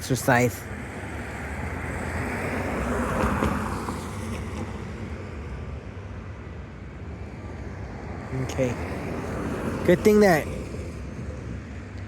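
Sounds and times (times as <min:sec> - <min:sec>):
car passing by: 0:00.8 - 0:05.8, 0:07.1 - 0:12.0.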